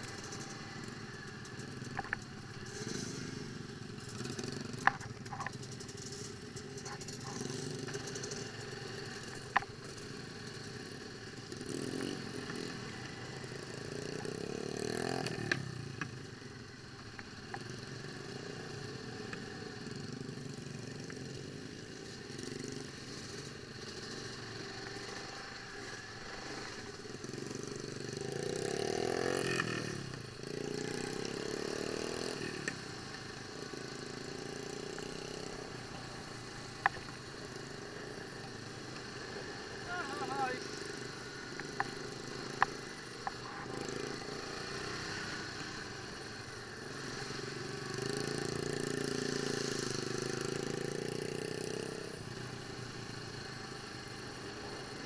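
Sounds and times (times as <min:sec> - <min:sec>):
atv engine revving: 0:00.0 - 0:16.1, 0:17.2 - 0:55.0.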